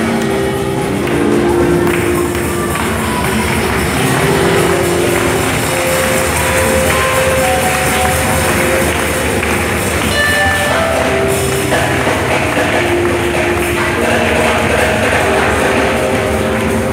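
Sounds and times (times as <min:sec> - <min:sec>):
live worship music: 0:00.0 - 0:16.9.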